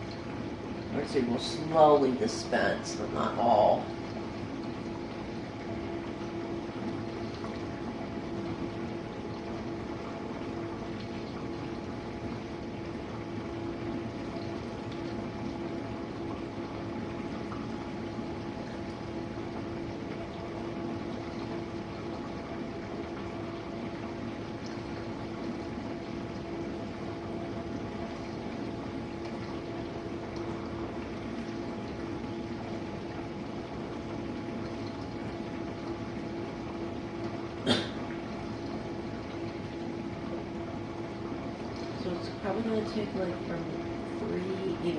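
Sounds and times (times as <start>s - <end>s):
dishwasher pump hum: 0.0s - 44.9s
water spraying inside dishwasher: 0.0s - 44.9s.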